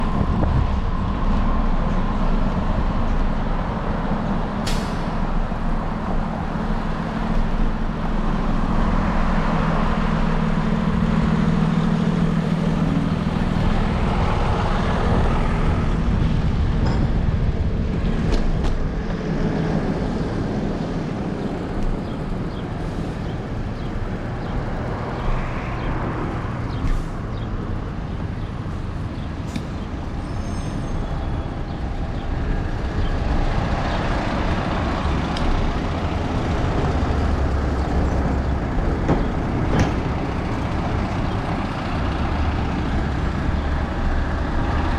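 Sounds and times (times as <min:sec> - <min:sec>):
heavy vehicle engine running: 0:00.0 - 0:44.9
road noise: 0:00.0 - 0:44.9.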